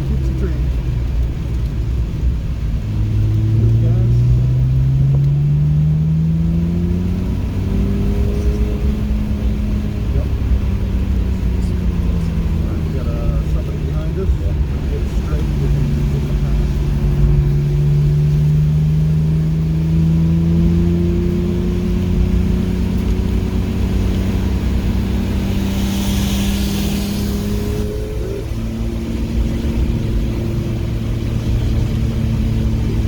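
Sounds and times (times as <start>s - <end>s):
car engine pulling under load: 0.0s - 33.0s.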